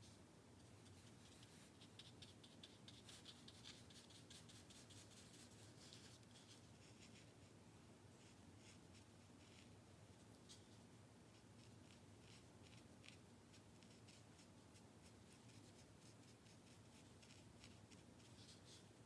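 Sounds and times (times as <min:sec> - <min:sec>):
paintbrush scratching on paper: 0:00.0 - 0:07.5, 0:08.2 - 0:18.9
low room hum: 0:00.0 - 0:19.0.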